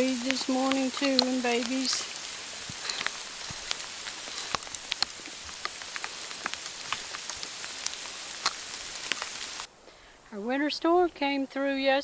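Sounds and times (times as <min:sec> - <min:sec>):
sleet ticking on surfaces: 0:00.0 - 0:09.7.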